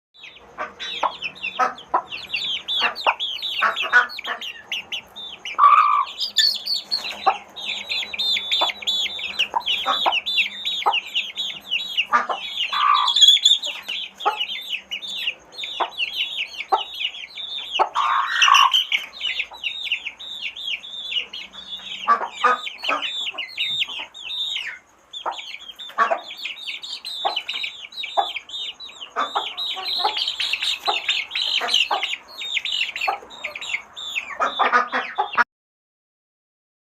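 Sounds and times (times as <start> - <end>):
chicks peeping: 0.2 - 35.4
lower louder chick calls: 0.2 - 35.4.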